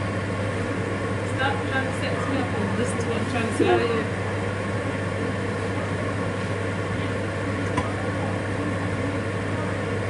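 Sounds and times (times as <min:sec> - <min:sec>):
appliance fan humming: 0:00.0 - 0:10.0.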